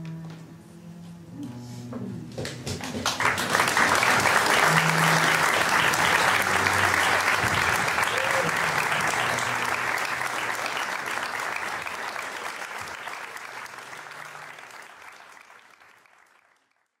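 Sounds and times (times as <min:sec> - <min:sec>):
audience applauding: 0:02.6 - 0:17.0.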